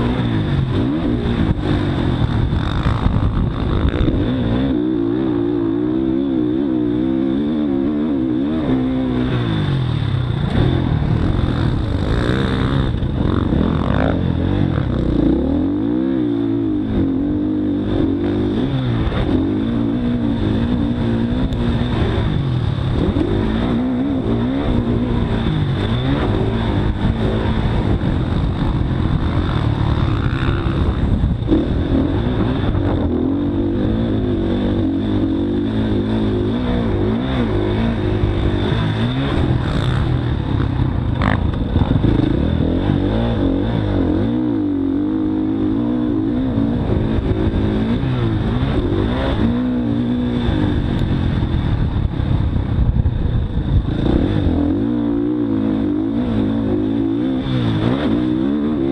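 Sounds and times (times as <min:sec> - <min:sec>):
dirt bike engine revving: 0:00.0 - 0:52.0, 0:53.6 - 0:58.9.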